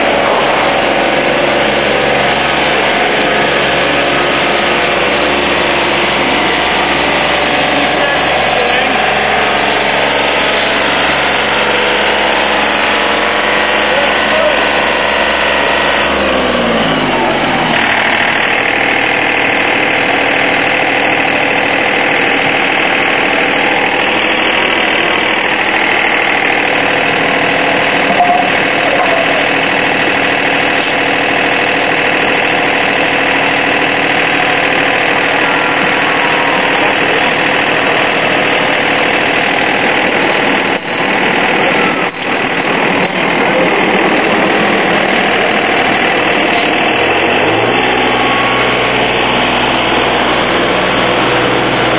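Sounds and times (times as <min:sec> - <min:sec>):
engine idling: 0:00.0 - 0:51.9.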